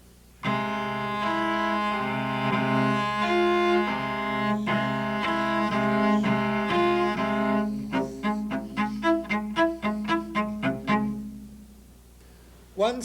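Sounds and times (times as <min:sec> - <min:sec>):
solo cello bowing: 0:00.4 - 0:11.9.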